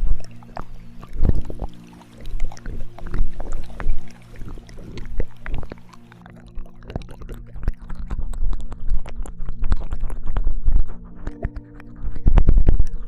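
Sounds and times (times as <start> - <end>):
steady low drone: 0.0 - 13.0
wet mouth clicks and smacks: 0.0 - 13.0.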